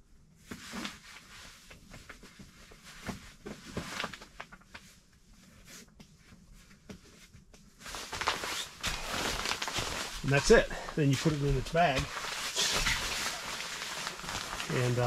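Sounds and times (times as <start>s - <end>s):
sleeping pad rustling and creaking: 0.3s - 15.0s.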